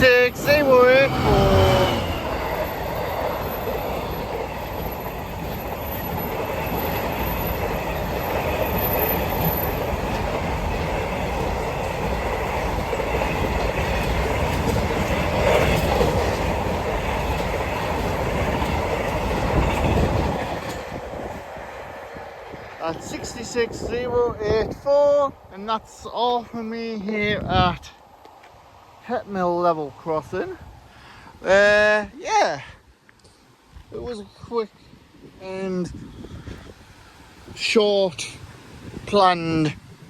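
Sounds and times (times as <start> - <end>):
freight train rumbling past: 0.0 - 30.9, 34.9 - 40.0.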